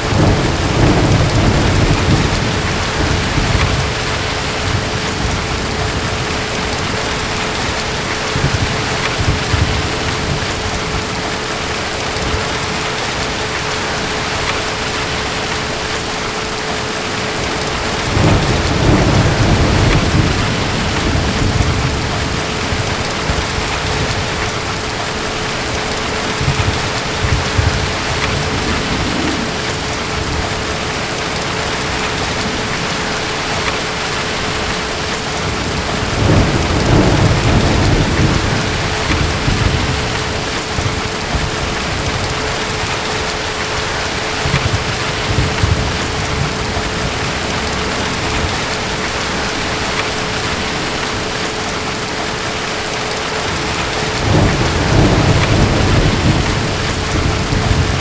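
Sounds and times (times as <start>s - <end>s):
rolling thunder: 0.0s - 51.4s, 53.4s - 58.0s
steady rain: 0.0s - 58.0s.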